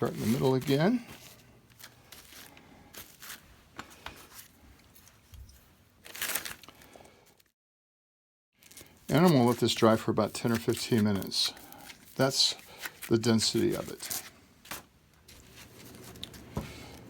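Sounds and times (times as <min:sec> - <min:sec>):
hands rustling velcro fabric: 0:00.0 - 0:07.5, 0:08.6 - 0:17.0.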